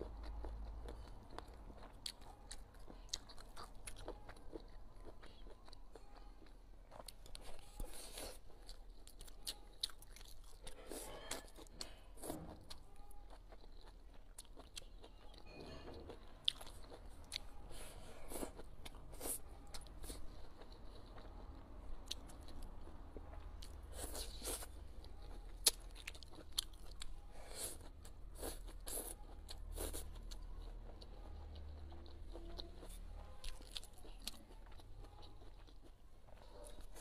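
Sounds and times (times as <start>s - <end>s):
wet chewing and biting: 0.0s - 37.0s.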